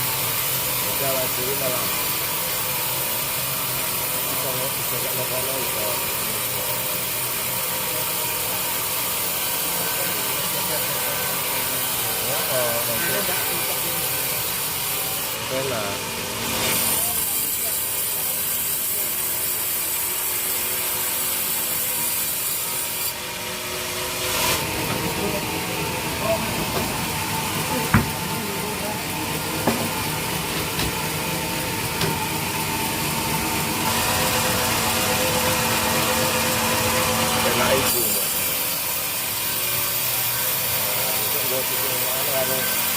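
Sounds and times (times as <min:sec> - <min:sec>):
saw cutting through wood: 0:00.0 - 0:42.9
sawmill motor hum: 0:00.0 - 0:42.9.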